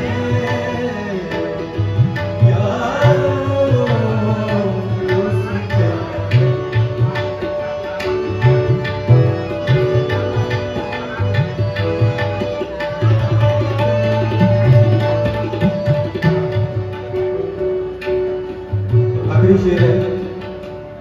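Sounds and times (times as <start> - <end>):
harmonium and synth notes: 0.0 - 21.0
tabla rhythm: 0.0 - 21.0.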